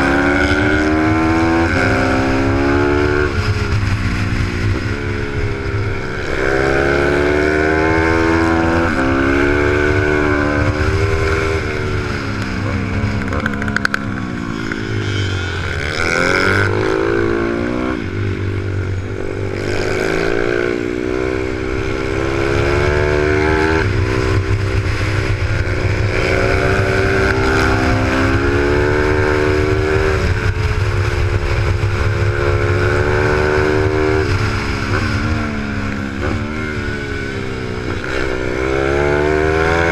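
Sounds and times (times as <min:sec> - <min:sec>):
motorbike engine accelerating: 0:00.0 - 0:39.9
wind on microphone: 0:00.0 - 0:39.9.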